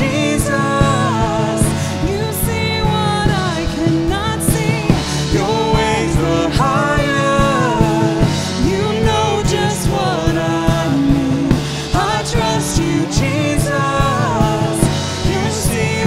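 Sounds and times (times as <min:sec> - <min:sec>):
drum beat: 0:00.0 - 0:16.0
person singing: 0:00.0 - 0:16.0
worship song band: 0:00.0 - 0:16.0.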